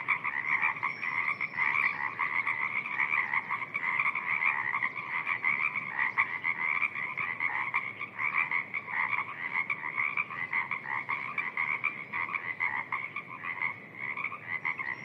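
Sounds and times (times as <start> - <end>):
chorus of frogs croaking: 0.0 - 15.0.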